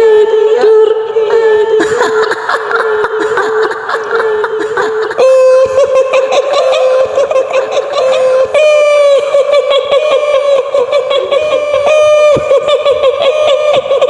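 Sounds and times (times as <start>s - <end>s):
woman wailing: 0.0s - 14.0s
woman cackling laugh: 1.8s - 14.0s.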